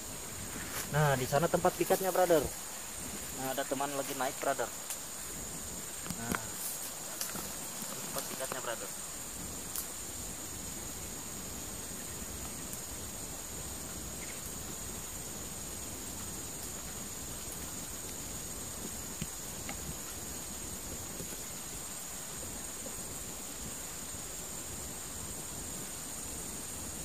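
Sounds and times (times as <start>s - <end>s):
forest ambience hiss: 0.0s - 27.0s
insects droning: 0.0s - 27.0s.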